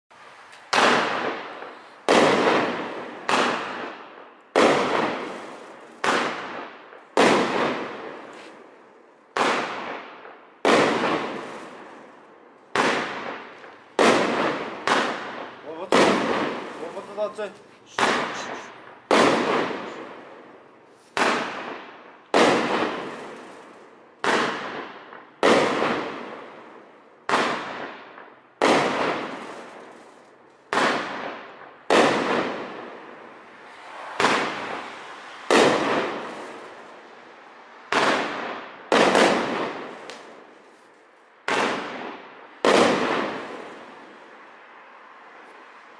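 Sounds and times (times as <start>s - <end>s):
fireworks cake bangs: 0.6s - 8.7s, 9.3s - 12.1s, 12.7s - 20.3s, 21.1s - 36.9s, 37.9s - 40.8s, 41.4s - 44.1s.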